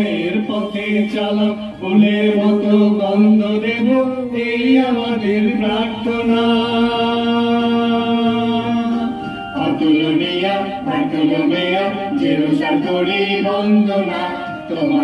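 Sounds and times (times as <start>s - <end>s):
electronic keyboard: 0.0s - 15.0s
men singing a slow hymn: 0.0s - 15.0s.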